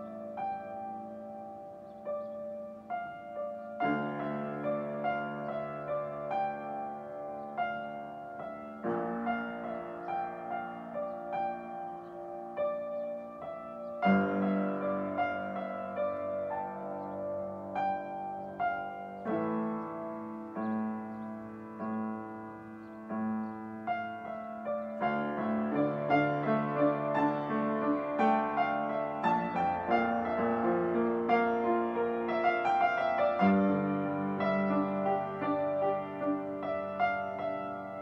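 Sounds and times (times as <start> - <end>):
solo piano: 0.0 - 38.0.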